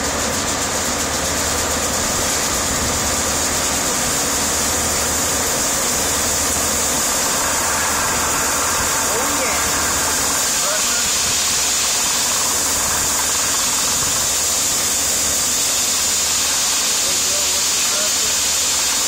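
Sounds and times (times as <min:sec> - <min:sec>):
engine rumble: 0:00.0 - 0:17.6
pressurised water hissing: 0:00.0 - 0:19.0.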